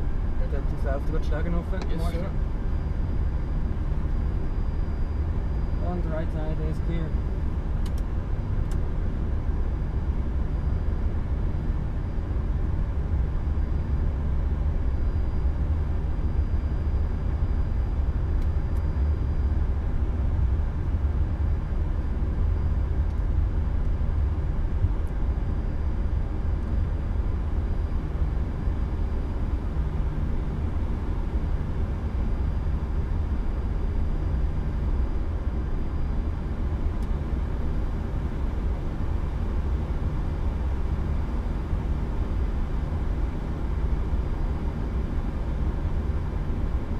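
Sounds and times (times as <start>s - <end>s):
low rumble of jet engines: 0.0s - 46.9s.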